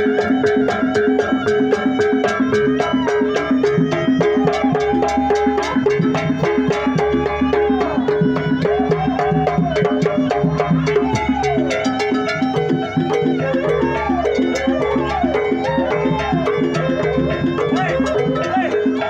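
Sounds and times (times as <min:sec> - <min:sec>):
drum strokes: 0:00.0 - 0:19.0
pitch-bending melody: 0:00.0 - 0:19.0.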